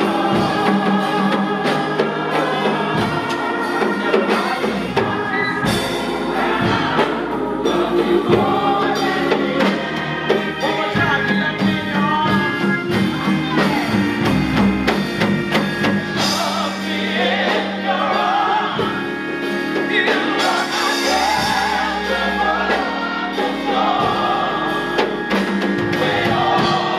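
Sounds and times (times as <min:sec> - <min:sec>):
drum kit beat: 0:00.0 - 0:26.9
gospel choir singing: 0:00.0 - 0:26.9
sustained keyboard chords: 0:00.0 - 0:26.9.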